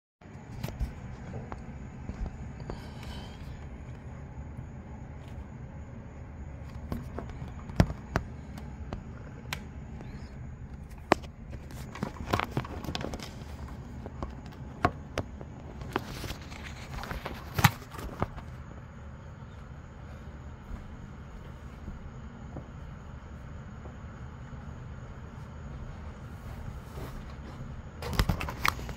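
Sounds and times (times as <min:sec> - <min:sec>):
low steady rumble: 0:00.2 - 0:28.9.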